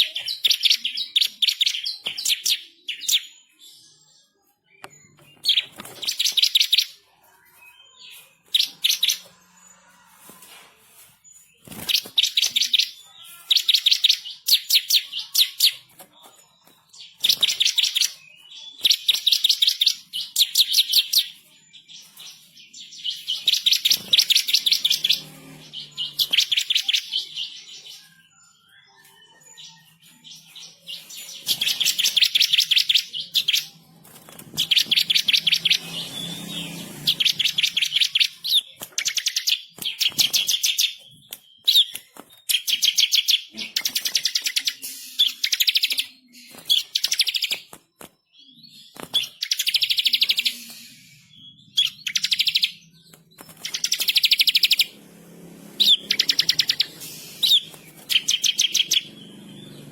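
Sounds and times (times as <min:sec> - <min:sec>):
bird singing rolling trills: 0:00.0 - 0:10.2, 0:11.2 - 0:59.9.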